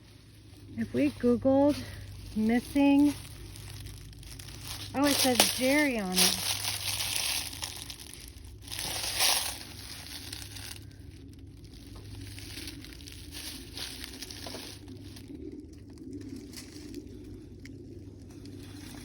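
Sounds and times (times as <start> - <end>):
dry leaves rustling: 0.0 - 19.0.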